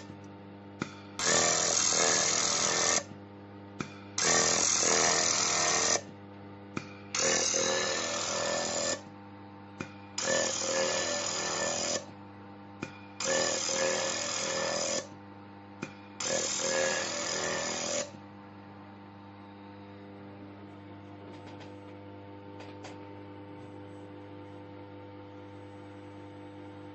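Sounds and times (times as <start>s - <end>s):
steady machine hum: 0.0s - 26.9s.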